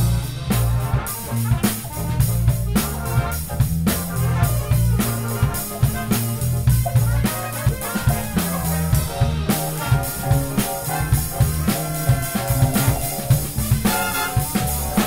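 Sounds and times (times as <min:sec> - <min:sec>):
drum kit: 0:00.0 - 0:15.0
electric bass line: 0:00.0 - 0:15.0
horn section: 0:00.0 - 0:15.0.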